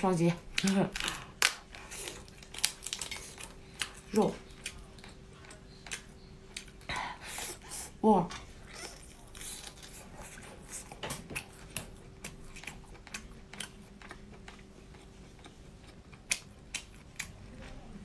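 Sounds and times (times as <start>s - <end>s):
faint steady hum: 0.0s - 18.0s
person chewing wetly: 0.5s - 6.9s, 8.4s - 17.7s.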